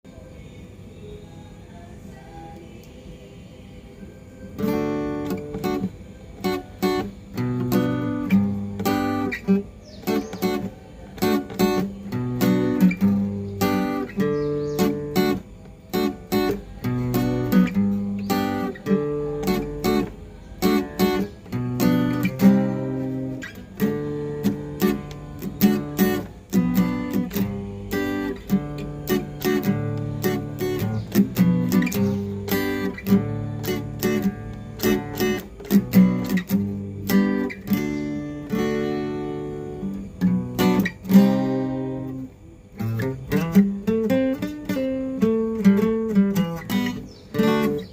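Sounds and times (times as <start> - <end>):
acoustic guitar strummed and picked: 4.5 - 47.9.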